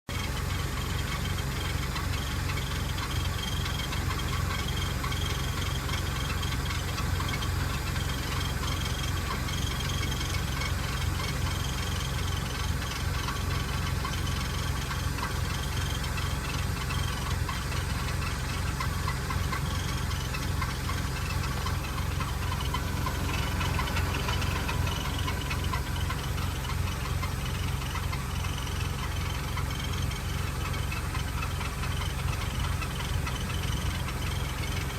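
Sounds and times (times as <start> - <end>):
engine idling with rhythmic knocking: 0.0 - 34.9.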